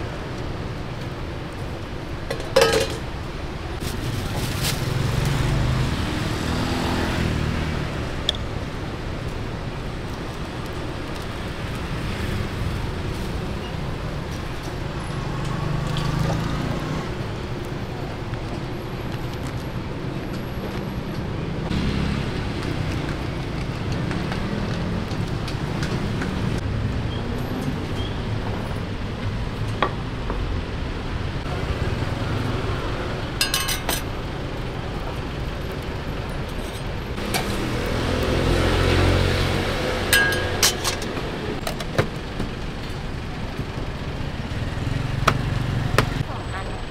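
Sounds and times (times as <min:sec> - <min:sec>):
traffic rumble: 0:00.0 - 0:46.9.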